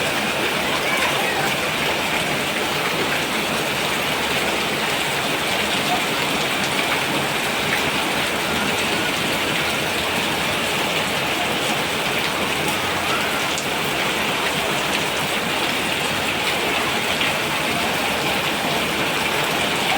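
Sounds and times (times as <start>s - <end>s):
rain hissing: 0.0s - 19.9s.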